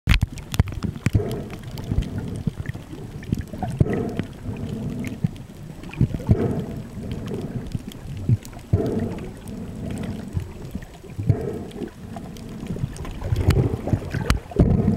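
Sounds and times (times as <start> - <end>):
sharp underwater clicks and knocks: 0.1 - 14.9
underwater moving water rumble: 0.1 - 14.9.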